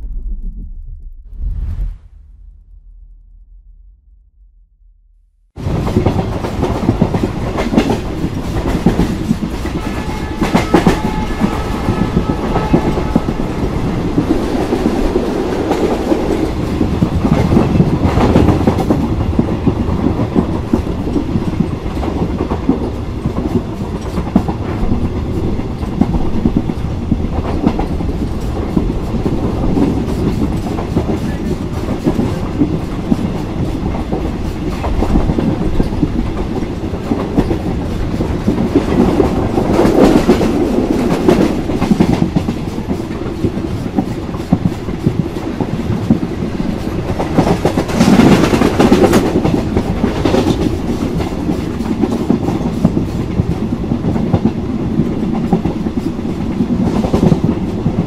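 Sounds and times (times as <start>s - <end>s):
clickety-clack over rail joints: 5.6s - 58.0s
train wheels rumbling on rails: 5.6s - 58.0s.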